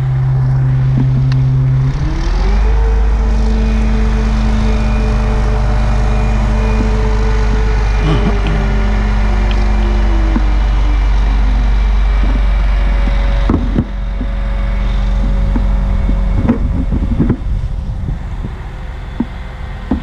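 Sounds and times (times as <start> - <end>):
crane engine running: 0.0 - 20.0.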